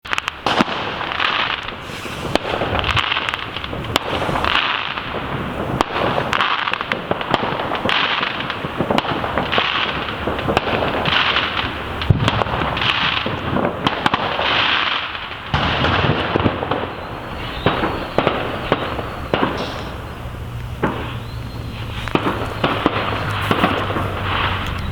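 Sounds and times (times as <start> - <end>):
sharp crackling pops: 0.0 - 24.9
firework hissing: 0.1 - 24.9.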